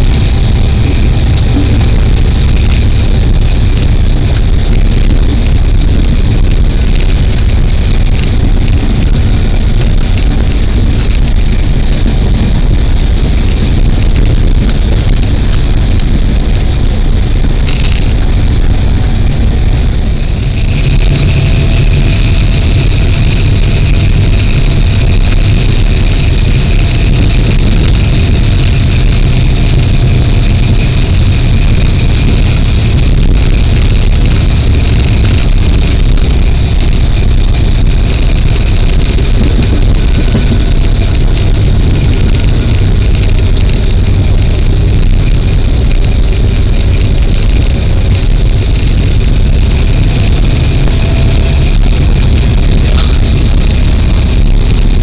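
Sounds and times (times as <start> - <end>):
steady whining tone: 0.0 - 55.0
train low rumble: 0.0 - 55.0.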